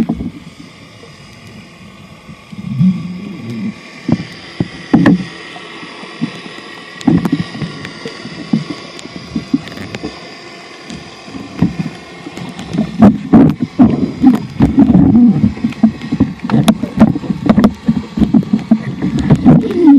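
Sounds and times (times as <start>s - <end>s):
water sloshing and bubbling: 0.0s - 19.9s.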